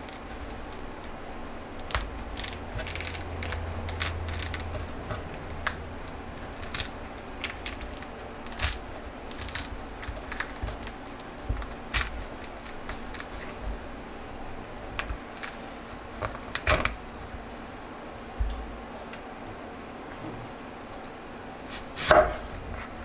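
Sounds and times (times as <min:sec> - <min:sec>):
low hum: 0:00.0 - 0:18.8.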